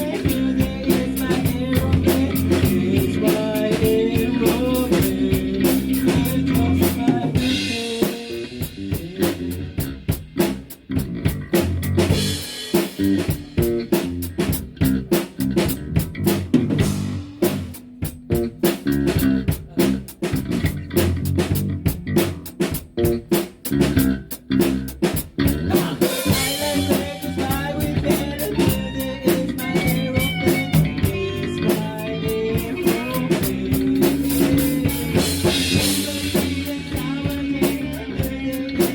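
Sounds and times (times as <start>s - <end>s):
drum hits: 0.0s - 38.9s
rock band playing: 0.0s - 38.9s.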